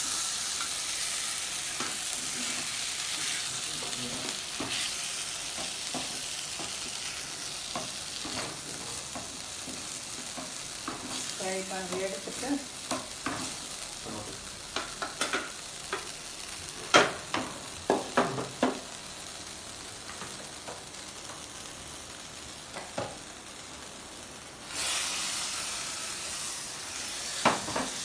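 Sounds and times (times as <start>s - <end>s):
chicken sizzling in butter: 0.0s - 28.0s.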